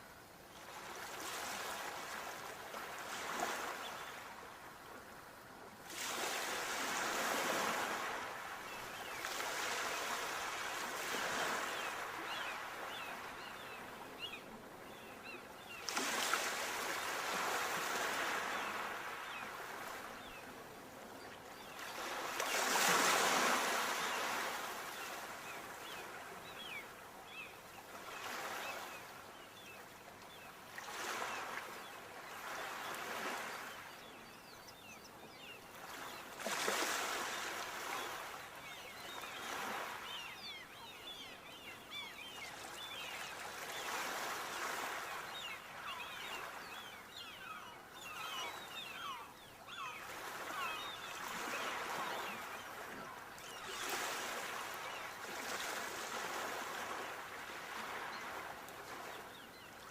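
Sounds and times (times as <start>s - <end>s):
sea waves breaking on shore: 0.5s - 29.7s, 30.4s - 59.7s.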